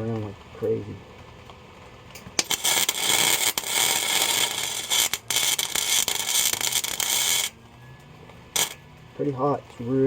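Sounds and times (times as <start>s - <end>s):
welder arc crackling and hissing: 0.0s - 10.0s.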